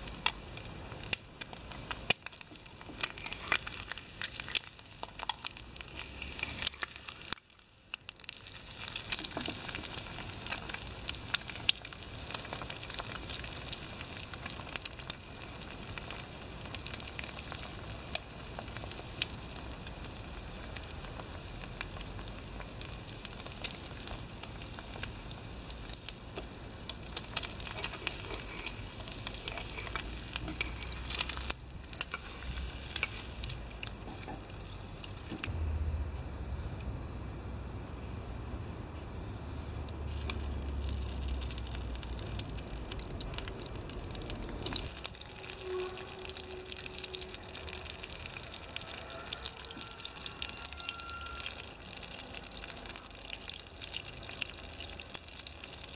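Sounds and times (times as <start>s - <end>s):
egg sizzling in a pan: 0.0s - 35.5s, 37.6s - 55.9s
crackles and pops: 0.0s - 55.9s.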